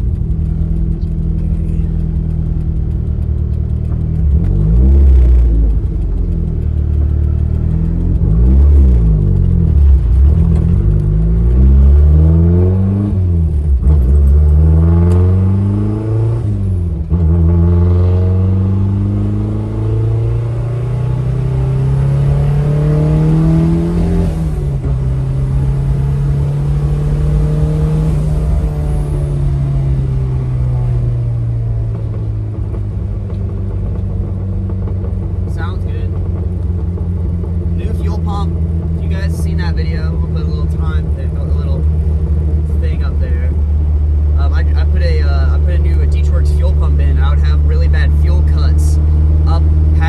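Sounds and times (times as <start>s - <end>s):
car engine revving with gear changes: 0.0s - 50.0s.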